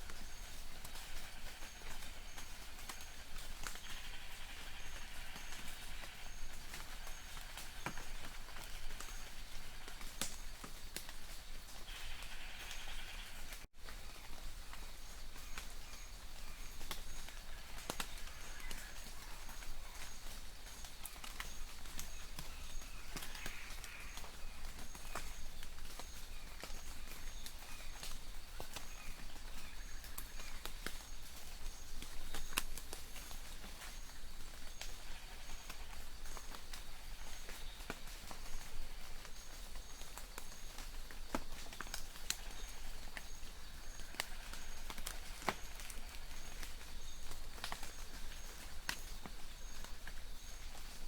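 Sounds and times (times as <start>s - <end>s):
faint rain hiss: 0.0s - 51.0s
raindrops tapping on leaves: 0.0s - 51.0s.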